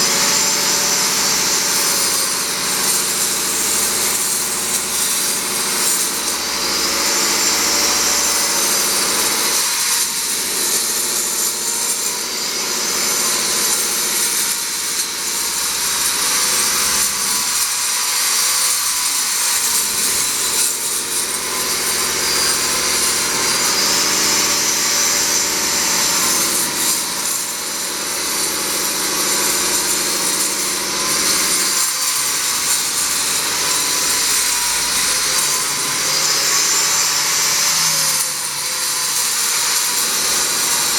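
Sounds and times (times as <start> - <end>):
angle grinder cutting brick: 0.0 - 40.9.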